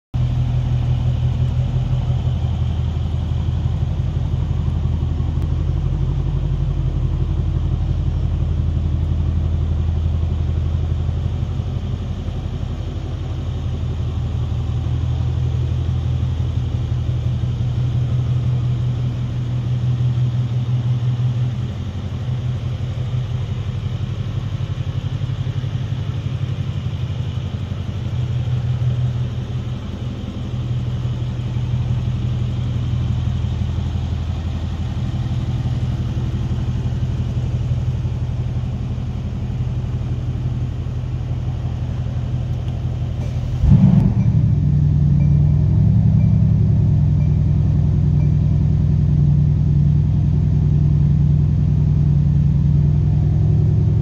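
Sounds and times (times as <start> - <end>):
car engine idling: 0.2 - 54.0.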